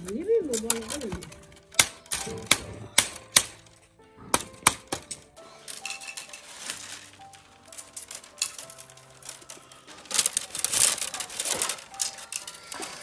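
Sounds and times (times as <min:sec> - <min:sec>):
bamboo strips rustling and scraping: 0:00.0 - 0:02.6, 0:04.8 - 0:13.0
bamboo strips clacking: 0:00.0 - 0:13.0
light background music: 0:00.0 - 0:13.0.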